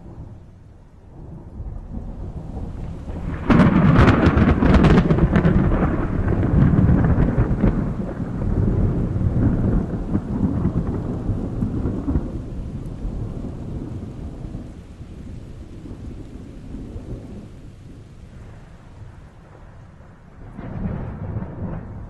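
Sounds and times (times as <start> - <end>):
rolling thunder: 0.0 - 22.0
steady rain: 0.0 - 22.0.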